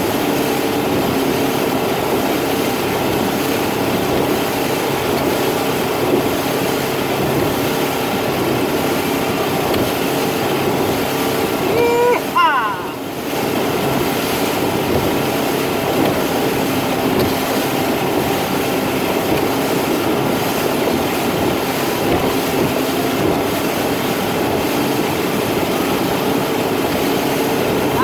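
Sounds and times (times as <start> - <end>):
motorboat engine drone: 0.0 - 28.0
rushing water: 0.0 - 28.0
rushing wind: 0.0 - 28.0.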